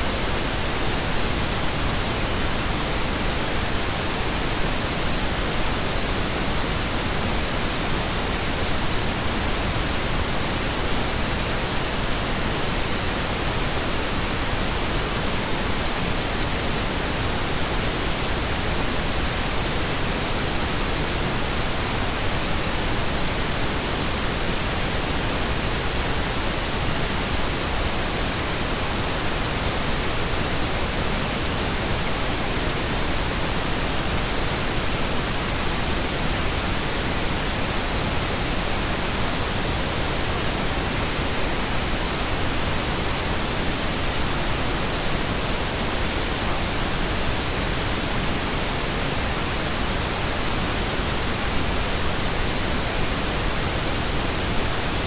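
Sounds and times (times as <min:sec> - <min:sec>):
pink noise hiss: 0:00.0 - 0:55.0.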